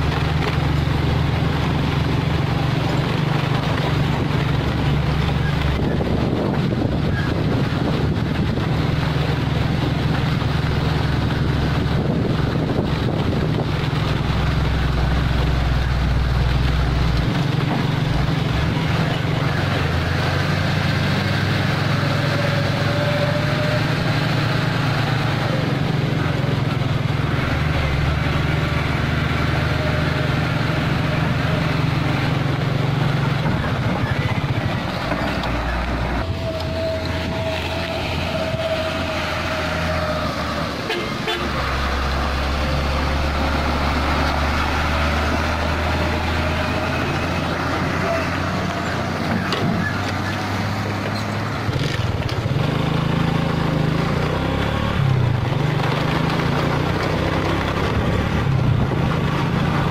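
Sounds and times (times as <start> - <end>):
truck diesel engine passing: 0.0 - 59.9.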